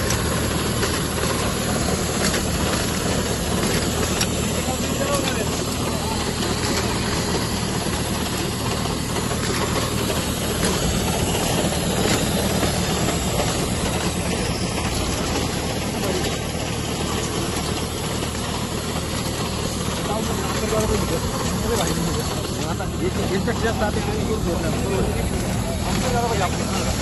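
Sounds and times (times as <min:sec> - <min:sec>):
weeding machine humming: 0:00.0 - 0:27.0.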